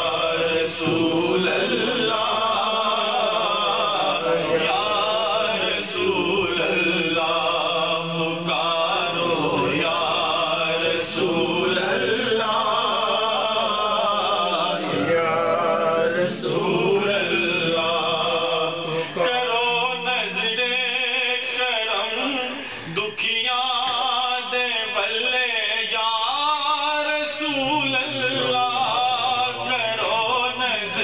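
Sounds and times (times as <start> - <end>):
man singing unaccompanied: 0.0 - 31.0.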